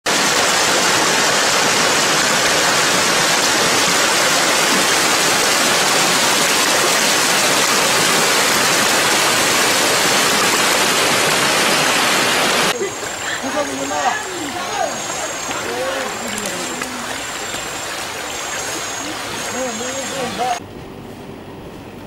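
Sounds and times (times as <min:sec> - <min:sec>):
floodwater rushing: 0:00.0 - 0:20.6.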